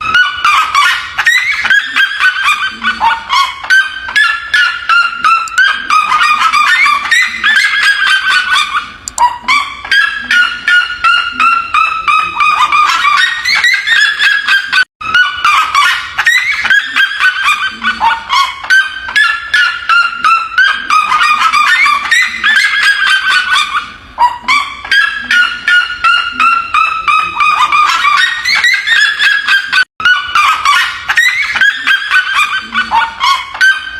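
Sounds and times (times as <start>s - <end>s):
bird calling rapid yelping notes: 0.0s - 33.9s.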